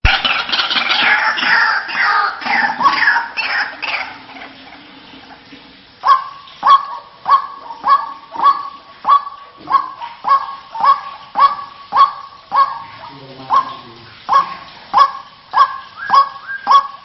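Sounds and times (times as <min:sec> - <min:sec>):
waterhen calling harsh notes: 0:00.0 - 0:17.0.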